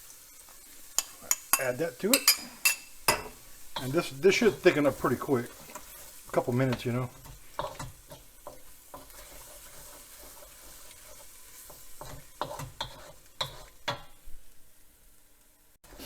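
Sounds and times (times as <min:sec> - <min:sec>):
chicken sizzling in a wok: 0:00.0 - 0:16.0
utensil scraping and knocking pan: 0:01.0 - 0:14.2.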